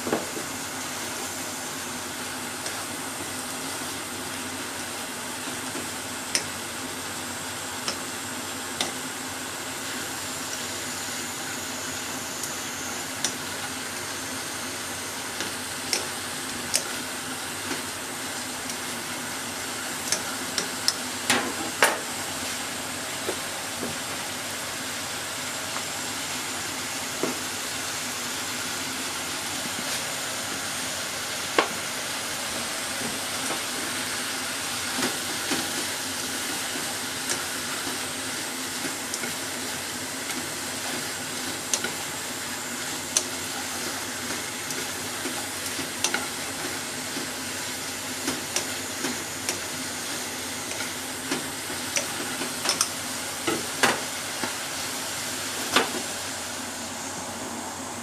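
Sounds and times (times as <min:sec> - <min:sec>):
food sizzling in oil: 0:00.1 - 0:57.0.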